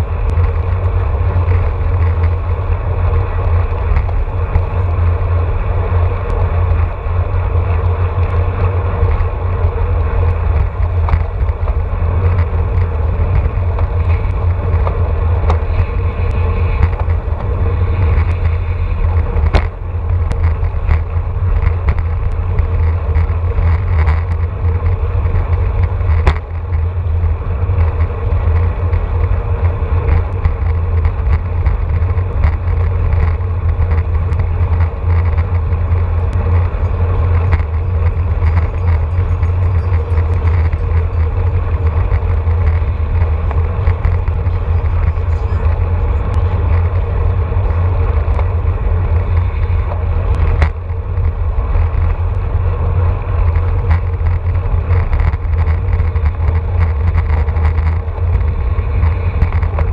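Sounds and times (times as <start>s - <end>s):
sharp clicks from bike: 0.0s - 6.9s, 7.5s - 59.9s
road and tyre noise: 0.0s - 59.9s
wind buffeting microphone: 0.0s - 59.9s.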